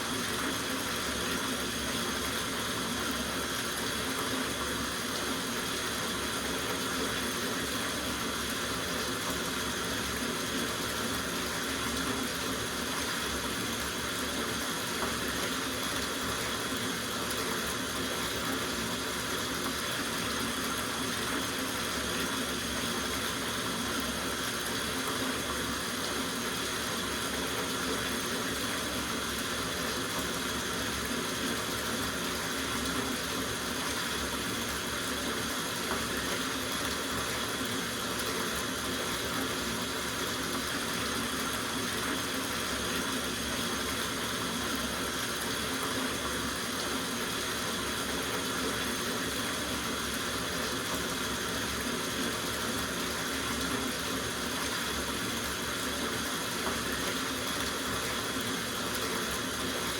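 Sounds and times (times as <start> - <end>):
tap water running into bathtub: 0.0 - 59.9.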